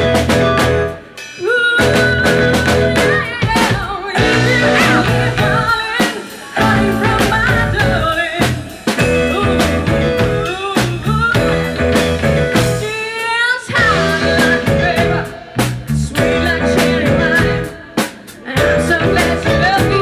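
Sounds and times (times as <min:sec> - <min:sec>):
drum kit: 0:00.0 - 0:20.0
electric guitar: 0:00.0 - 0:20.0
woman singing: 0:01.3 - 0:20.0.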